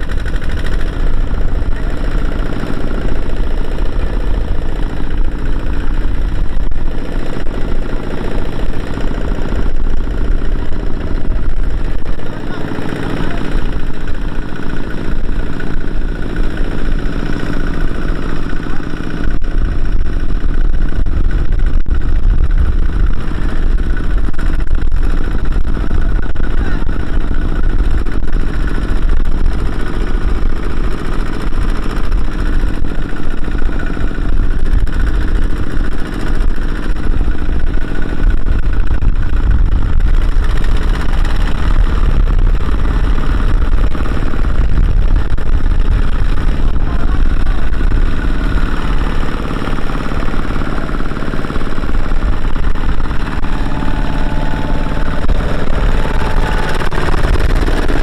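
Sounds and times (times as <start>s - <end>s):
diesel engine running loud: 0.0s - 58.0s.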